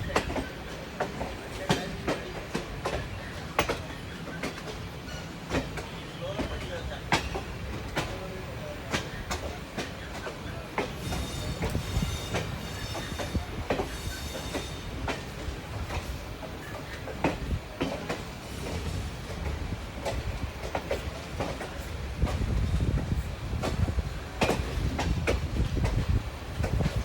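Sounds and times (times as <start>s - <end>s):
train rumbling: 0.0s - 27.0s
wheels clicking over rail joints: 0.0s - 27.0s.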